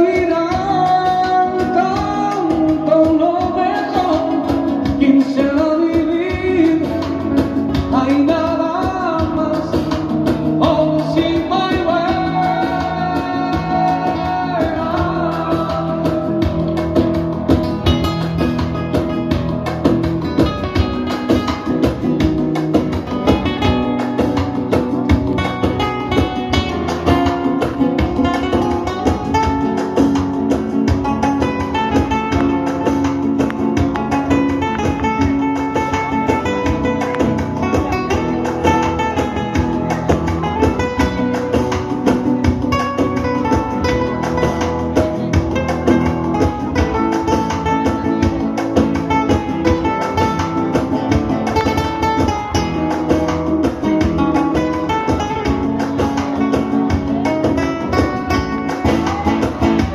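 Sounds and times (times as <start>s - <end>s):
flamenco acoustic guitars: 0.0s - 59.9s.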